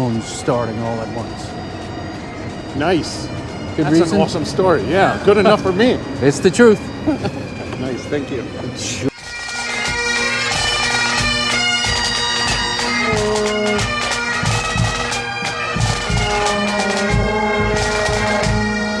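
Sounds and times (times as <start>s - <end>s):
bagpipes playing: 0.0s - 19.0s.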